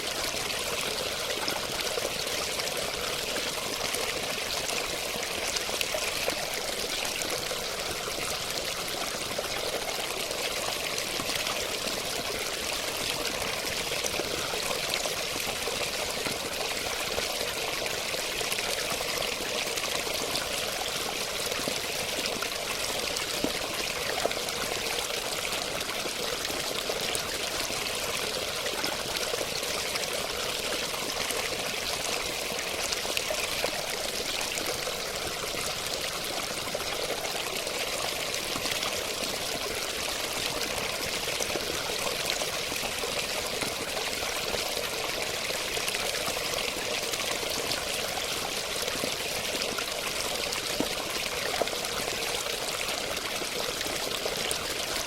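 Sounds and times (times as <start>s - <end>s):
water flowing and splashing: 0.0s - 55.0s.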